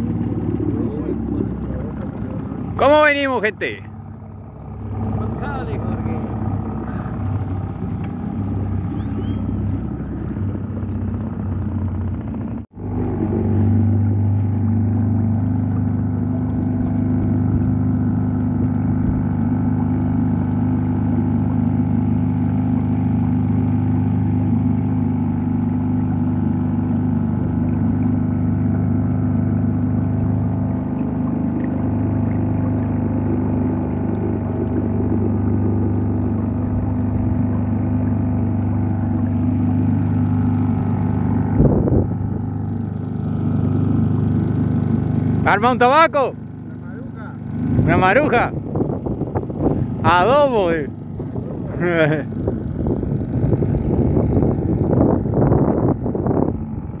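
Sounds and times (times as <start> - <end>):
outboard motor droning: 0.0 - 57.0.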